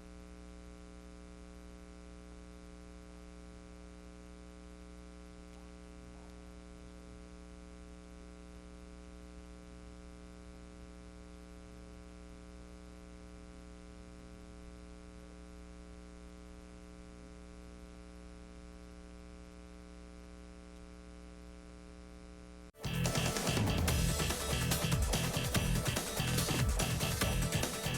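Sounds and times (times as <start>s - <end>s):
electrical mains hum: 0.0s - 27.9s.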